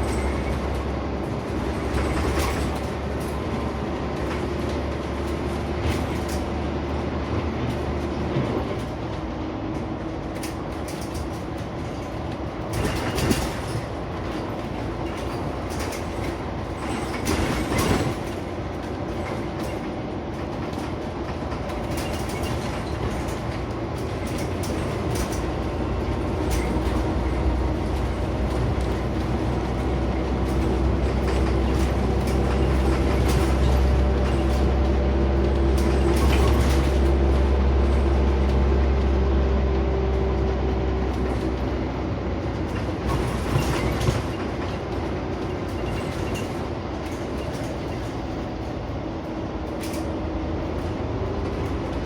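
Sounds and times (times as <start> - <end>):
bus engine under load: 0.0 - 52.0.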